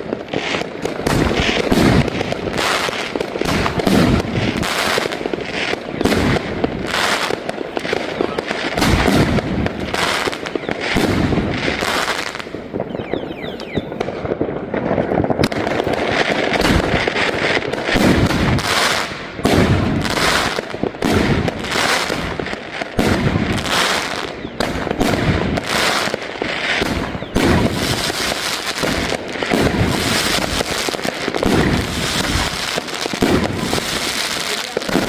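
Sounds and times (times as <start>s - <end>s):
dense firework popping: 0.0s - 35.0s
heavy booming firework shots: 0.0s - 35.0s.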